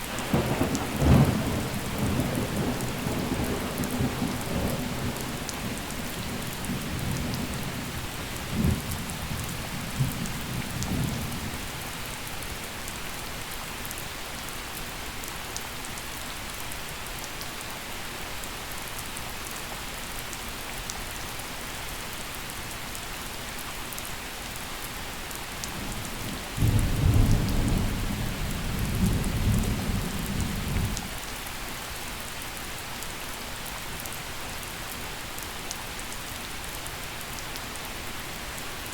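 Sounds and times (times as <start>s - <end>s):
gentle rain: 0.0s - 38.9s.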